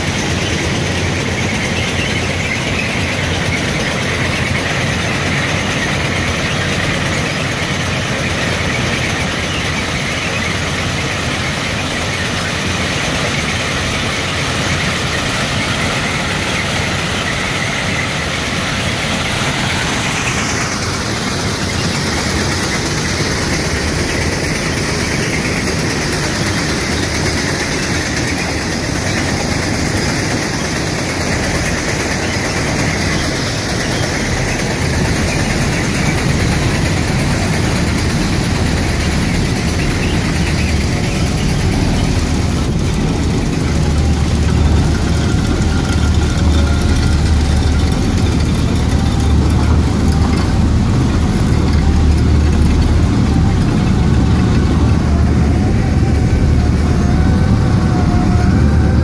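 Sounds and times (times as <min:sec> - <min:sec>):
track machine mechanical din: 0:00.0 - 0:59.0.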